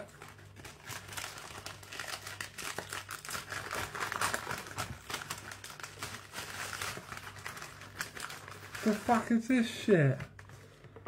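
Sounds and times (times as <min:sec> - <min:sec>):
paper bags crinkling: 0:00.0 - 0:10.7.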